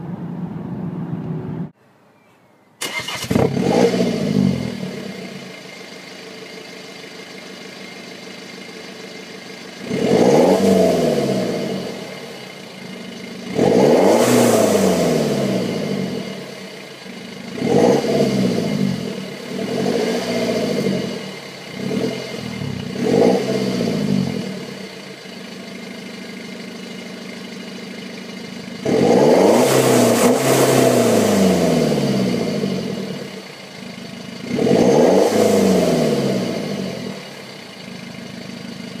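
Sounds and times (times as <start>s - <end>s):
diesel engine revving: 2.8s - 39.0s.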